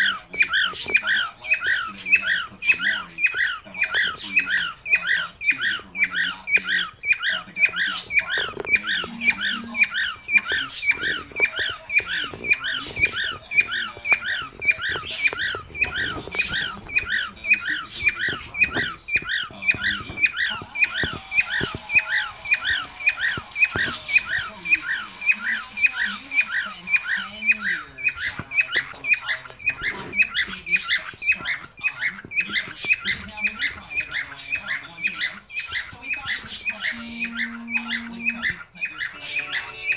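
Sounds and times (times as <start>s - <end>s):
cockatiel squawking: 0.0s - 39.9s.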